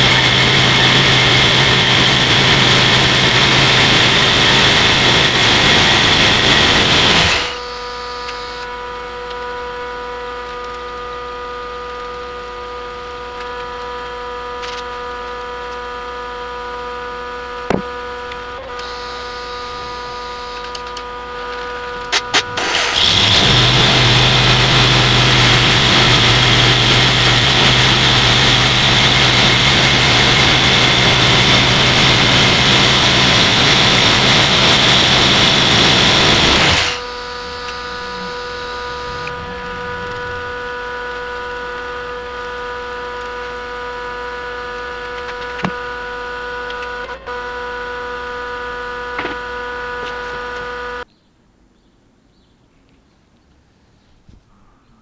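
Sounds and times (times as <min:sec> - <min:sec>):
bandsaw whining through log: 0:00.0 - 0:51.0.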